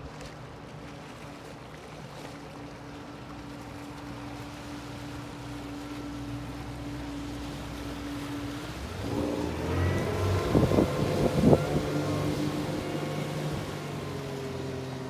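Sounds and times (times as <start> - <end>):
motorboat engine passing: 0.0 - 15.0.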